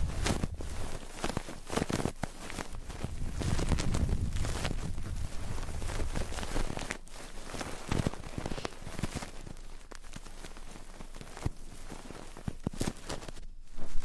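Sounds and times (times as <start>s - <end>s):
scratching and rubbing on microphone: 0.0s - 14.0s
sharp clicks and crackles: 0.0s - 14.0s.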